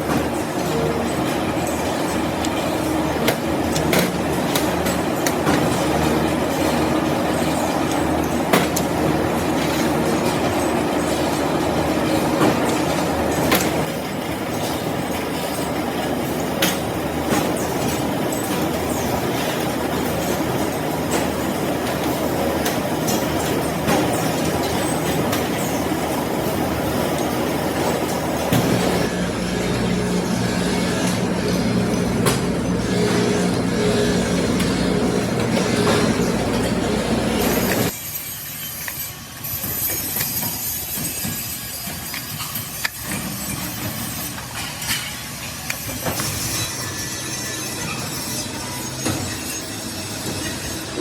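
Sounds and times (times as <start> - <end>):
workshop machinery rattling: 0.0 - 51.0.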